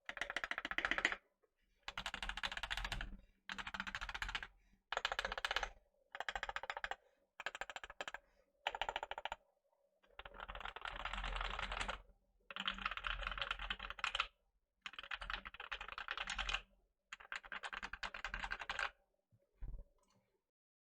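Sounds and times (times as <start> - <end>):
typing on mechanical keyboard: 0.0 - 1.2, 1.9 - 9.4, 10.1 - 14.3, 14.9 - 18.9.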